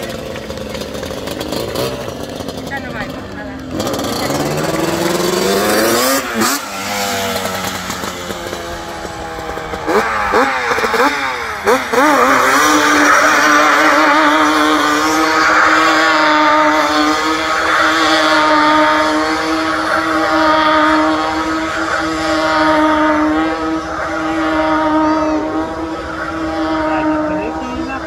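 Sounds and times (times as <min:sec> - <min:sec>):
quad engine at high revs: 0:00.0 - 0:28.0.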